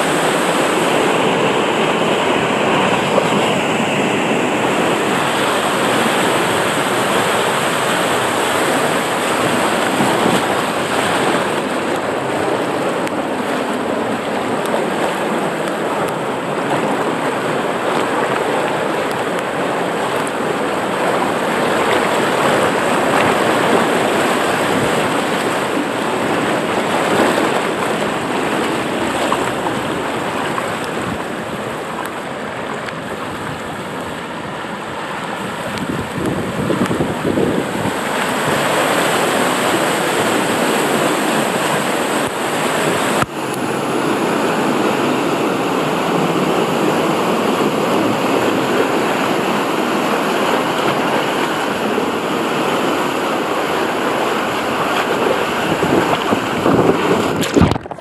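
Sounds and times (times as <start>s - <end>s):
rushing splashing water: 0.0s - 58.0s.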